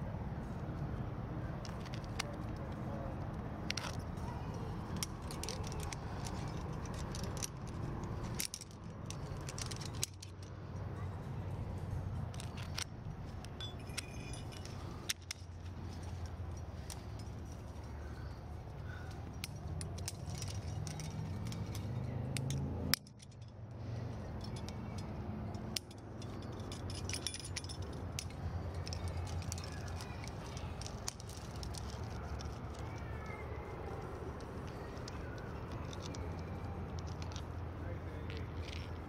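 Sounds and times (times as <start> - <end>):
climbing hardware clinking: 1.6 - 11.0, 11.7 - 39.0.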